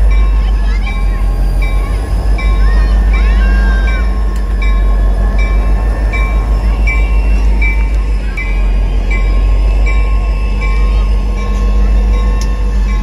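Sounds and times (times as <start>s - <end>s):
diesel engine rumble: 0.0s - 13.0s
locomotive bell ringing: 0.0s - 13.0s.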